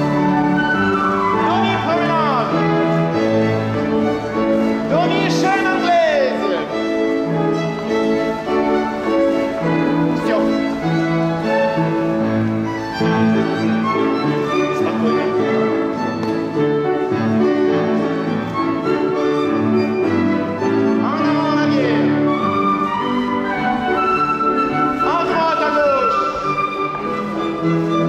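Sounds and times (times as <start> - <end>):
ballroom dance music with violin: 0.0 - 28.0.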